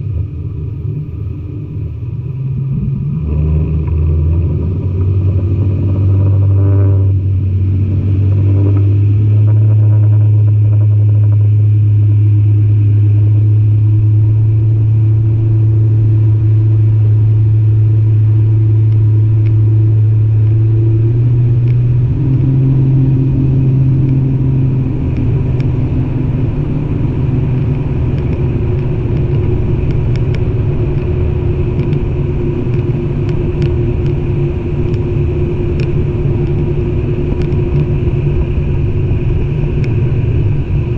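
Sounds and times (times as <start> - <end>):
engine humming: 0.0 - 40.9.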